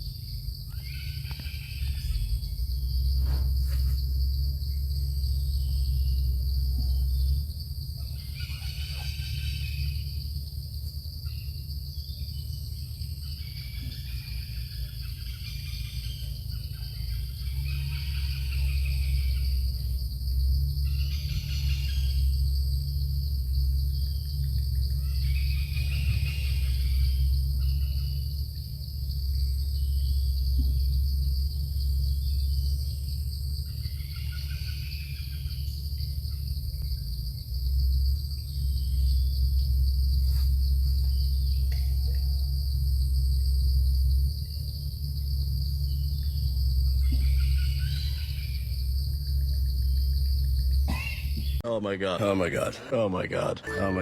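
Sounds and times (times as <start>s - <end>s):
high-pitched insect drone: 0.0s - 51.6s
constant low rumble: 0.0s - 54.0s
faint chirps: 0.0s - 54.0s.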